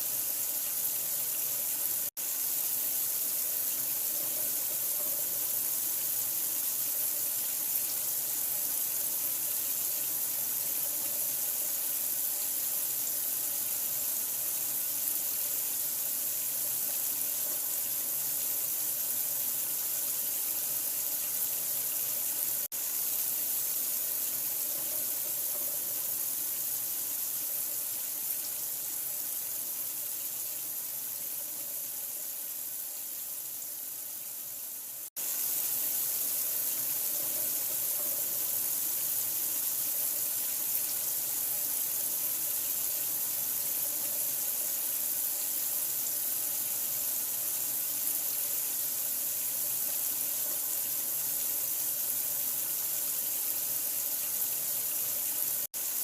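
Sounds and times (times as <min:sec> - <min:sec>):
water running from a tap: 0:00.0 - 0:56.0.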